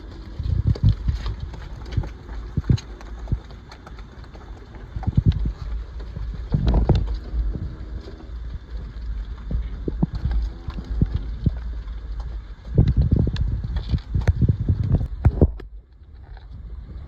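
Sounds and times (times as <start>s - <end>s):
cow hooves clopping on hard ground: 0.0s - 17.0s
steady low rumble: 0.0s - 17.0s.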